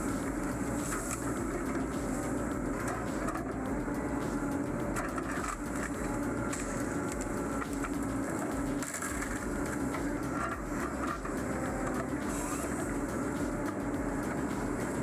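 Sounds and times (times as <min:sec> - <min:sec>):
heavy machinery engine hum: 0:00.0 - 0:15.0.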